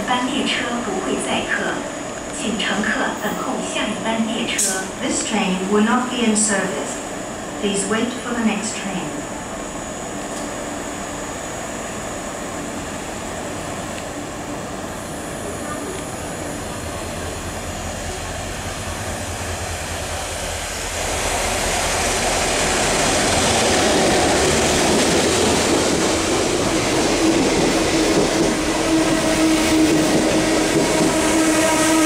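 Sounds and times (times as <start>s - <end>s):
diesel locomotive engine: 0.0s - 32.0s.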